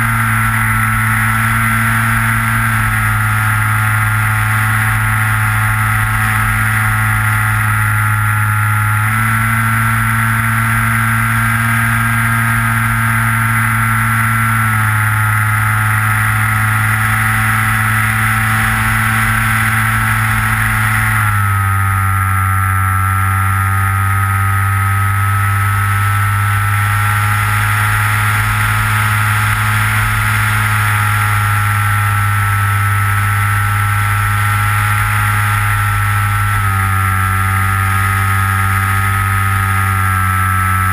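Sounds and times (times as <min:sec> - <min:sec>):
electric motor and propeller: 0:00.0 - 0:40.9.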